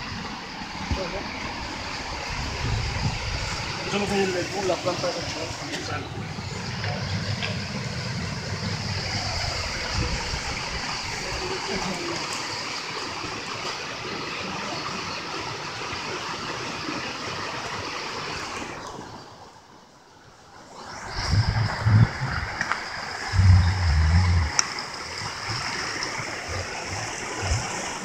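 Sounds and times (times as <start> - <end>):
fast-flowing river water: 0.0 - 28.0.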